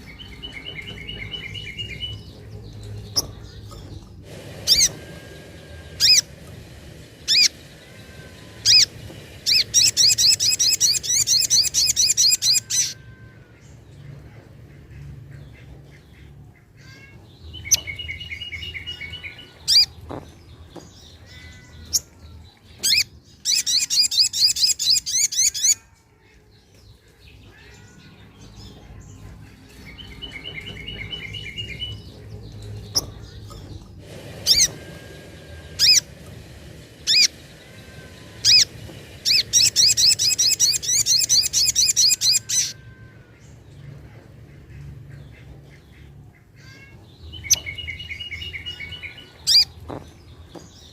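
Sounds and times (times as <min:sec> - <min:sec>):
sunbird song: 0:00.0 - 0:50.9.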